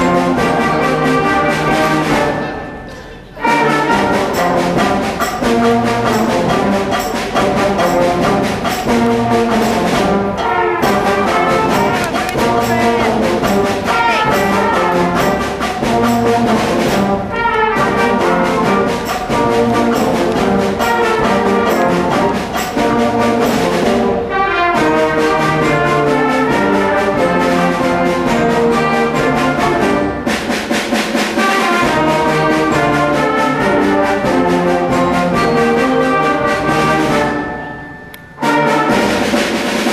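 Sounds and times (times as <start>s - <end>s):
concert band playing: 0.0s - 39.9s.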